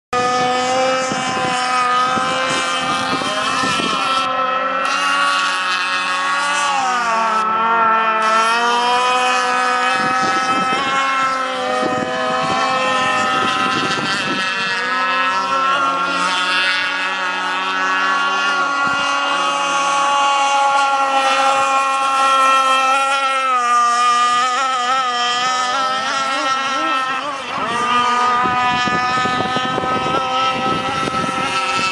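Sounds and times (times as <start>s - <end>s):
rc boat engine at high revs: 0.1s - 31.9s.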